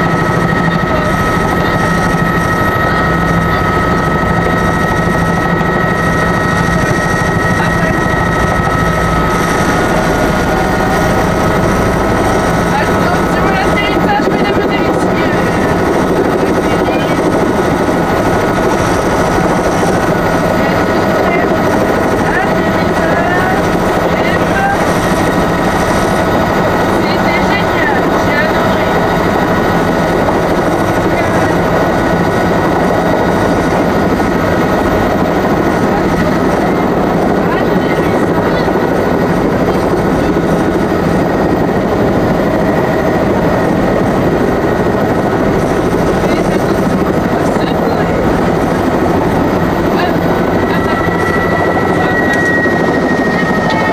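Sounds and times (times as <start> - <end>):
helicopter engine and rotor: 0.0 - 53.9
high turbine whine: 0.0 - 53.9.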